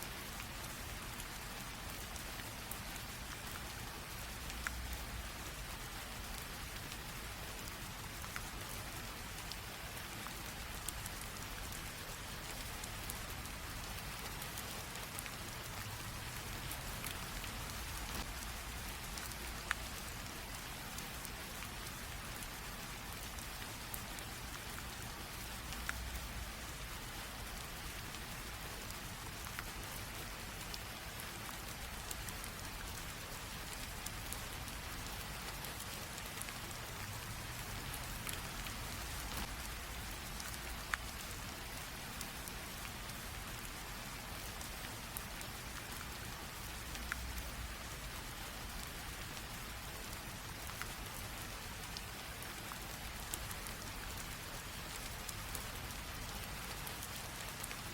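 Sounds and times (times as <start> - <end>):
light rain patter: 0.0 - 57.9.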